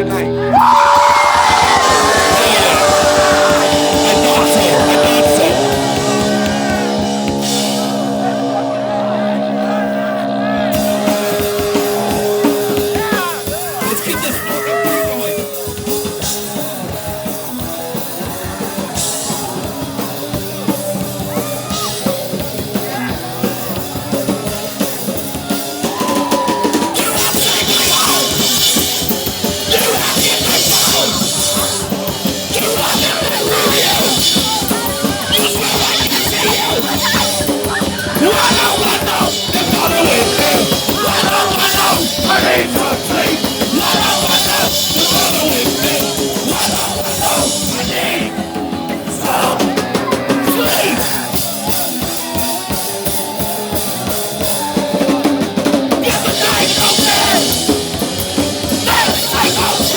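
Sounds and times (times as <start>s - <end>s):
distorted guitars: 0.0s - 59.9s
drum kit: 0.0s - 59.9s
punk band playing: 0.0s - 59.9s.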